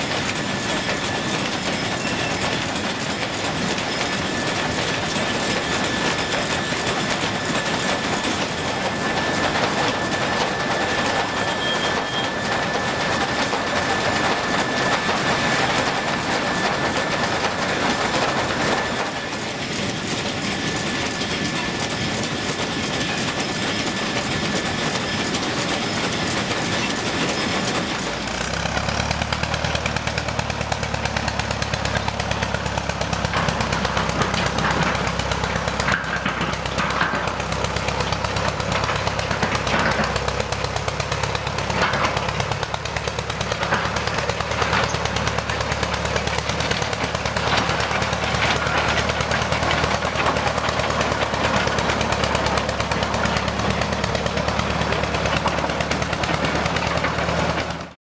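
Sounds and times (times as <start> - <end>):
bulldozer engine chugging: 0.0 - 58.0
tracks clanking: 0.0 - 58.0.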